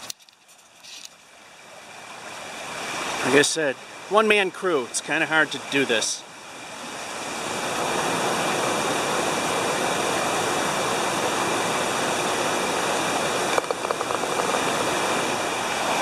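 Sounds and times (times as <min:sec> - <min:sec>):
waterfall and stream rushing: 0:01.2 - 0:16.0.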